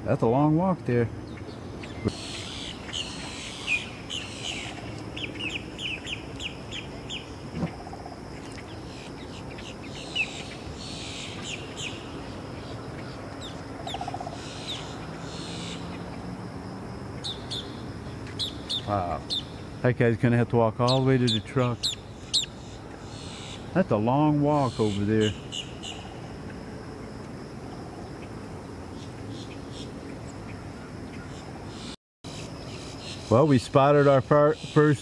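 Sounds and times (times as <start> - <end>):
high insect drone: 0.0 - 35.0
birds chirping: 0.1 - 16.3, 17.1 - 26.3, 28.0 - 35.0.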